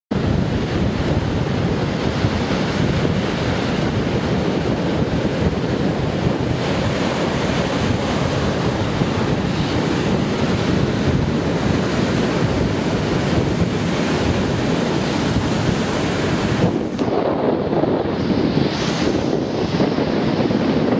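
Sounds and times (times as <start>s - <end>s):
surf breaking on beach: 0.1s - 20.9s
wind buffeting microphone: 0.1s - 20.9s.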